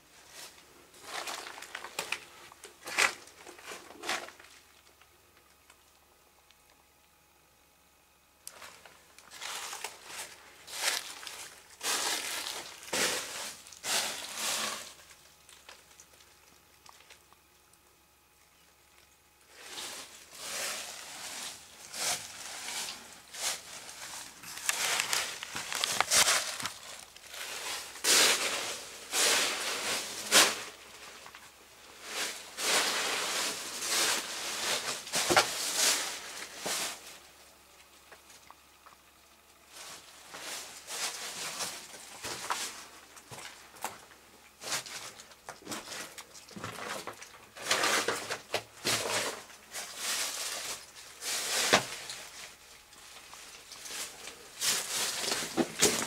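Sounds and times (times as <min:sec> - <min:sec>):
footsteps crunching on dry debris: 0:00.2 - 0:04.7, 0:08.5 - 0:17.2, 0:19.5 - 0:37.0, 0:39.8 - 0:56.0.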